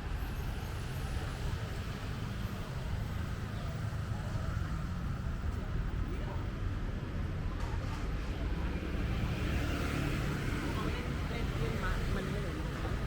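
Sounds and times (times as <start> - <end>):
low rumble of city traffic: 0.0 - 13.0.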